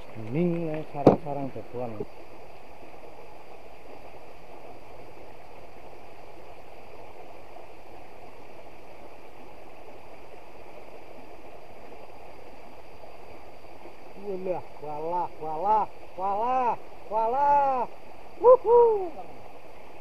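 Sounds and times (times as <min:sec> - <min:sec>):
stream rushing over stones: 0:00.0 - 0:20.0.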